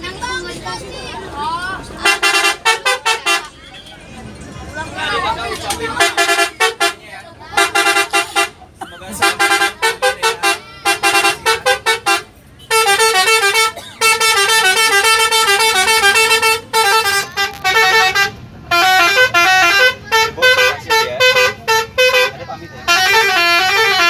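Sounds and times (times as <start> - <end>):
bus horn playing a melody: 2.0 - 3.6, 5.9 - 24.0.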